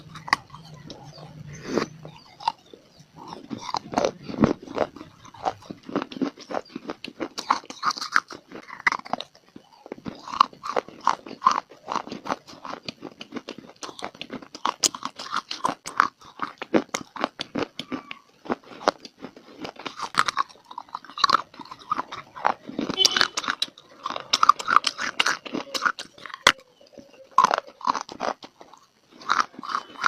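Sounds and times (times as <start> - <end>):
person chewing dry clay: 0.0 - 30.0.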